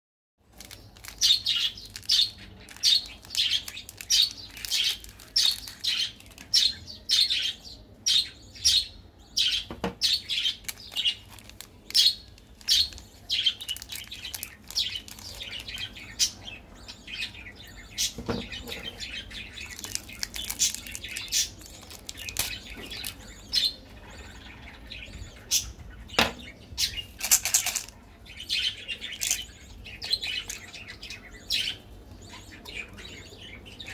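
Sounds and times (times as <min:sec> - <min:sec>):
small birds chirping: 0:00.4 - 0:33.9.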